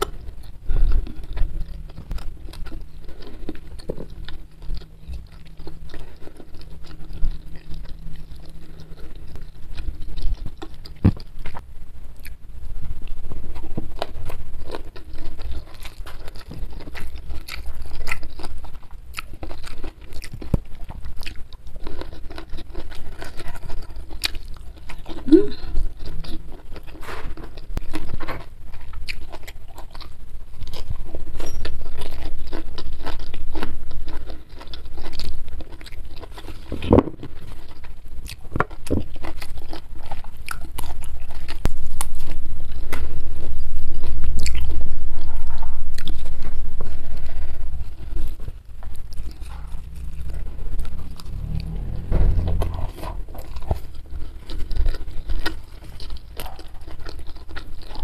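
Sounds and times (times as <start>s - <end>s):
chewing: 0.0s - 58.0s.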